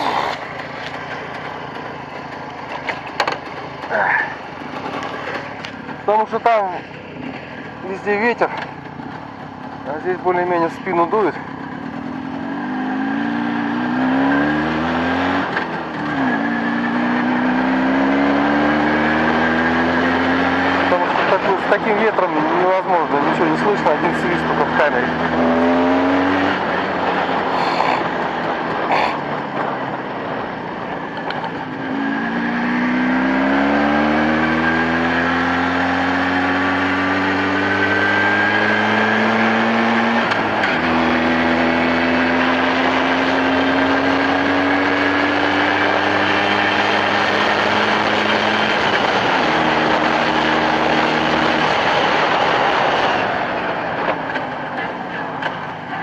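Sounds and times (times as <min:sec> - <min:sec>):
two-stroke engine shifting gears: 0:00.0 - 0:56.0.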